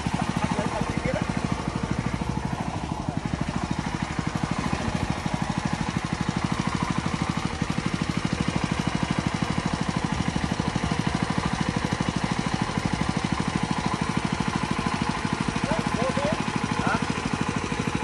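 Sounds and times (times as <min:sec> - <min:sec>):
small petrol engine puttering: 0:00.0 - 0:18.0.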